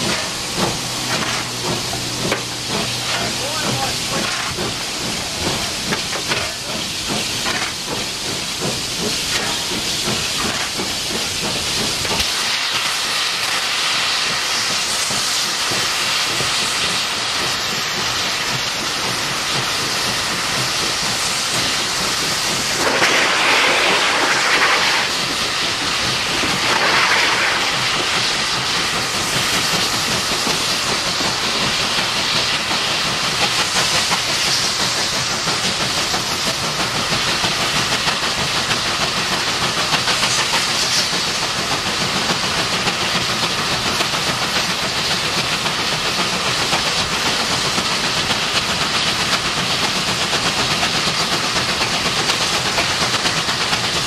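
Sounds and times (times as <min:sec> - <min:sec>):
rhythmic locomotive beat: 0:00.0 - 0:12.3, 0:14.2 - 0:54.0
rushes of steam: 0:00.0 - 0:54.0
steam locomotive hissing: 0:00.0 - 0:54.0.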